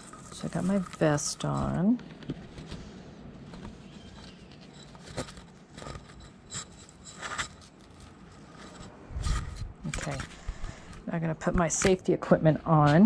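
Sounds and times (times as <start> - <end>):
faint rustling: 0.0 - 11.7.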